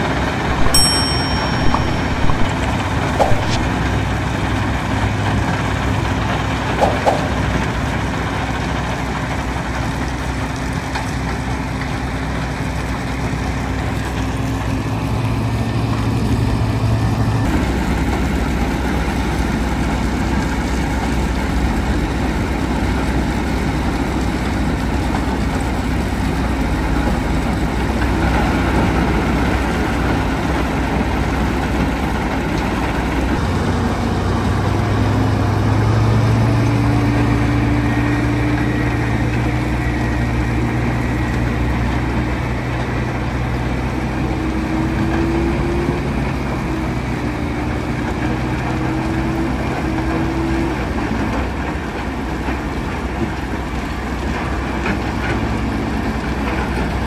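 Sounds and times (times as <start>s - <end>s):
diesel engines running: 2.7s - 57.0s.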